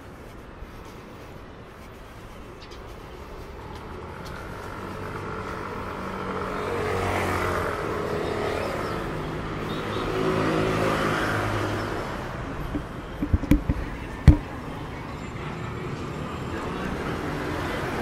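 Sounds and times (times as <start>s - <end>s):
vehicles passing close by: 0.0s - 18.0s.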